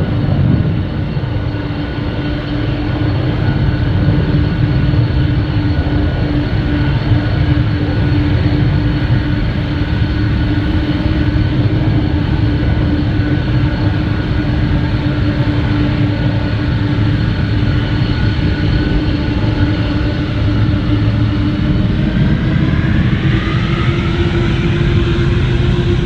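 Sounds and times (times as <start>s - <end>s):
jet engines rumbling and droning: 0.0s - 26.0s.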